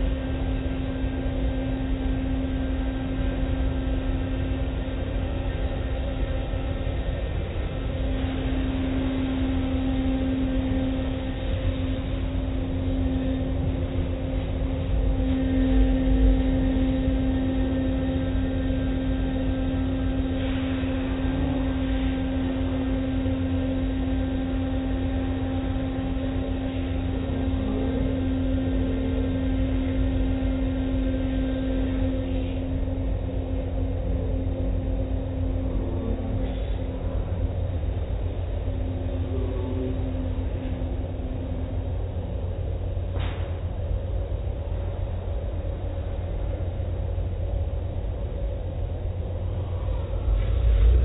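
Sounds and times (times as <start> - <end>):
machine hum: 0.0 - 51.0.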